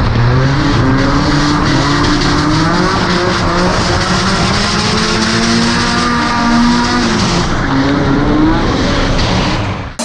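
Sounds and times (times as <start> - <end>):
car engines on throttle: 0.0 - 10.0.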